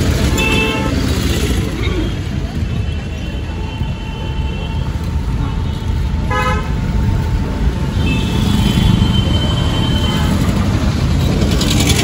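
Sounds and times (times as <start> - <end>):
rickshaw rumble and rattle: 0.0 - 12.0
street traffic: 0.0 - 12.0.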